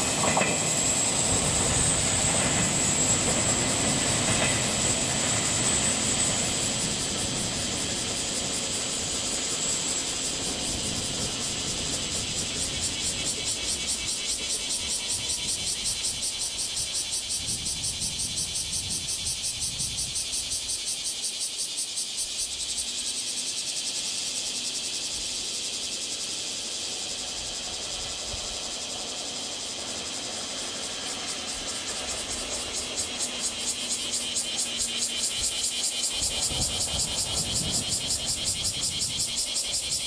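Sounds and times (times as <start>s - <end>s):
cicadas pulsing drone: 0.0s - 40.0s.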